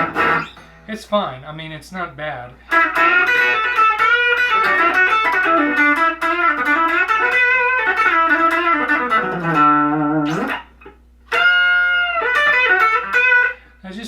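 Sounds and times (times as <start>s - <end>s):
electric guitar riff: 0.0s - 1.2s, 2.6s - 13.8s.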